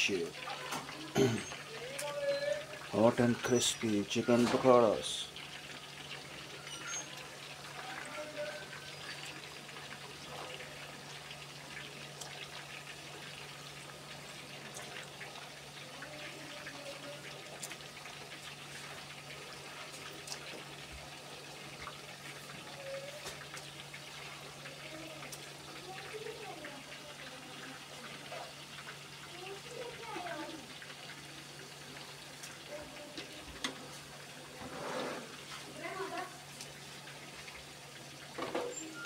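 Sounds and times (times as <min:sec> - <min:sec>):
food deep-frying in hot oil: 0:00.0 - 0:39.0.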